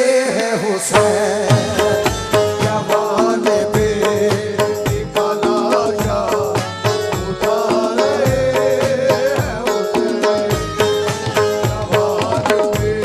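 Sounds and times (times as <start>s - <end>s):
keyboard melody: 0.0s - 13.0s
hand drum rhythm: 1.0s - 13.0s.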